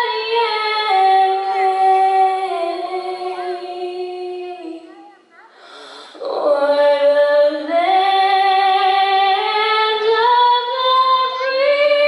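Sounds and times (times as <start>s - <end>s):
woman singing long notes: 0.0s - 4.9s, 6.0s - 12.0s.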